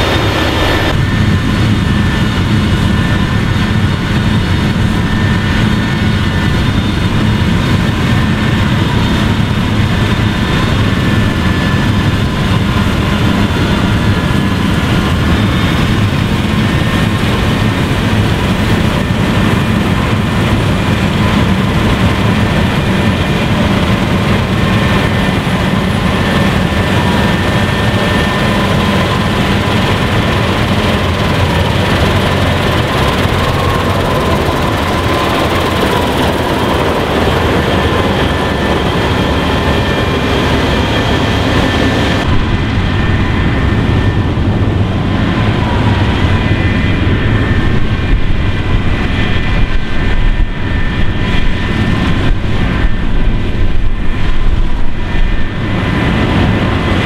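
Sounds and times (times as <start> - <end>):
combine harvester droning: 0.0 - 50.7.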